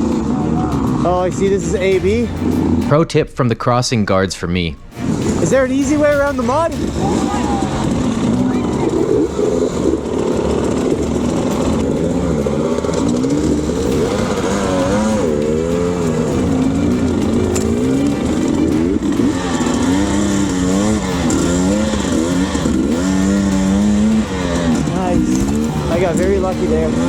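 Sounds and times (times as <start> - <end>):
dirt bike engine revving: 0.0 - 3.1, 4.8 - 27.0.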